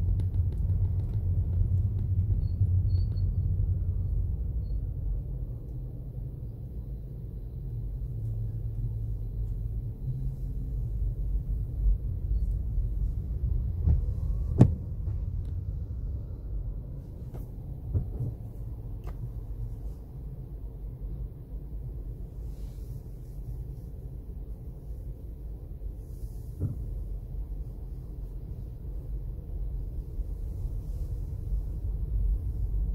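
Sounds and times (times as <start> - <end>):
car engine and tyres rumbling: 0.0 - 32.9.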